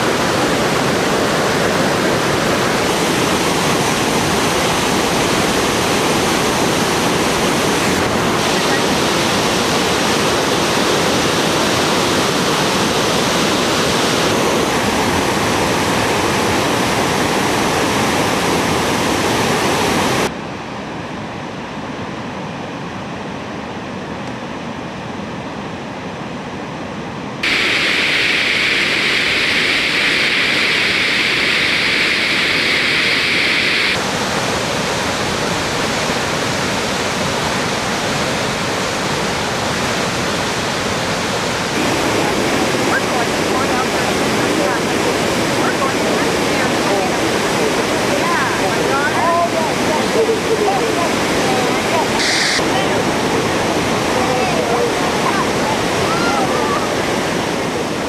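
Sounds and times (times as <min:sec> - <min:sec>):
waterfalls rushing: 0:00.0 - 0:20.3, 0:27.4 - 0:58.0
river water flowing: 0:00.0 - 0:20.6, 0:27.4 - 0:58.0.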